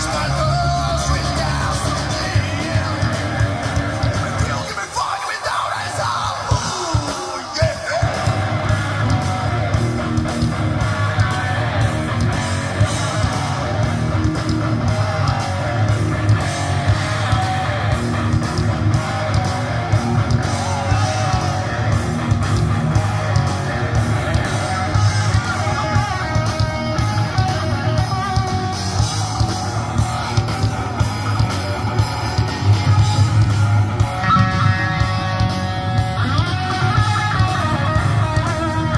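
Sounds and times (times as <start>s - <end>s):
electric guitar: 0.0s - 38.9s
live rock band playing: 0.0s - 38.9s.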